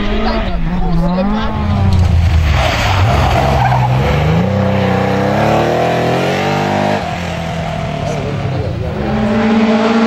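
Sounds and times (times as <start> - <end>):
rally car engine accelerating hard: 1.4 - 10.0.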